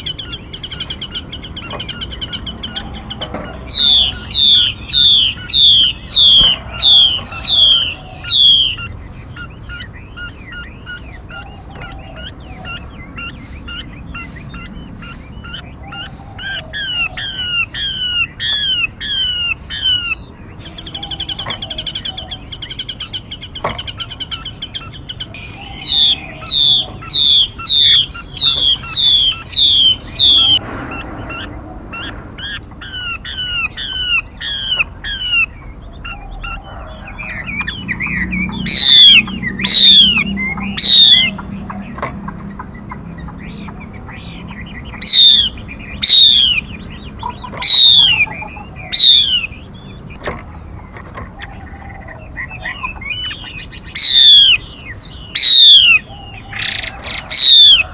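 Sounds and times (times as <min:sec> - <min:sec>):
bird whistled calls and trills: 0:00.0 - 0:57.9.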